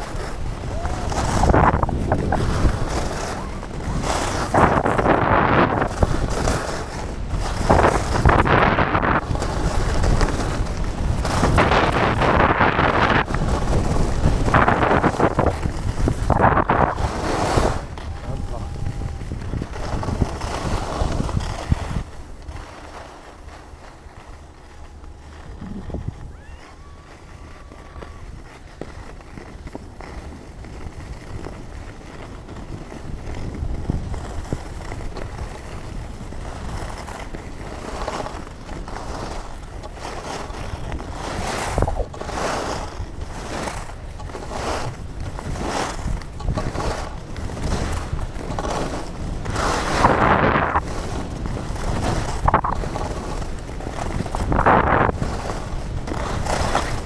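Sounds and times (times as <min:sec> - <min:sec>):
skis scraping on snow: 0:00.0 - 0:57.0
wind rumble on microphone: 0:00.0 - 0:57.0.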